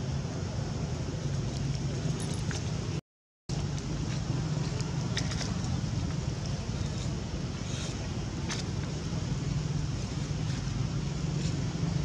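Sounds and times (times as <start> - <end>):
steady rumbling: 0.0 - 12.0.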